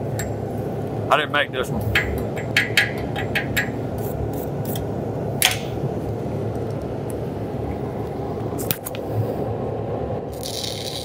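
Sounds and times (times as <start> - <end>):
shop equipment humming: 0.0 - 10.4.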